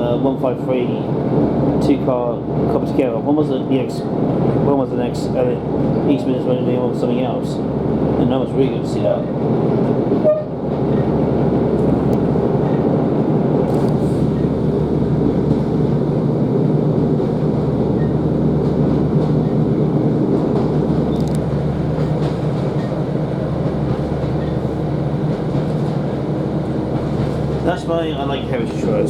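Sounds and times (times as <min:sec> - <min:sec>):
train diesel engine running: 0:00.0 - 0:29.0.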